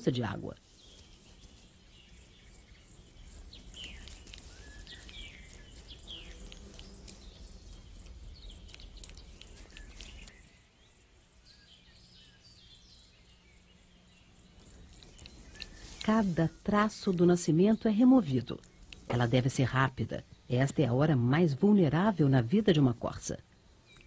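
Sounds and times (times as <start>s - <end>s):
faint birdsong: 0.0s - 24.0s.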